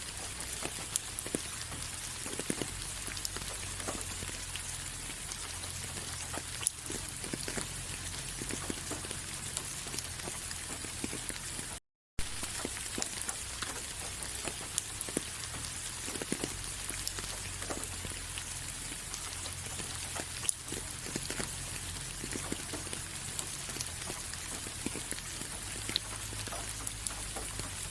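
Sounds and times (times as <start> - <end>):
rain falling: 0.0 - 27.9
raindrops clicking: 0.0 - 27.9.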